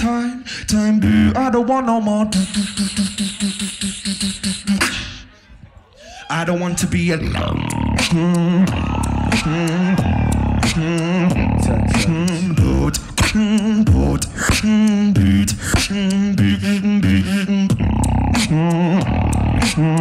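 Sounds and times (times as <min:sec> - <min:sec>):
beatboxing into a microphone: 0:00.0 - 0:20.0.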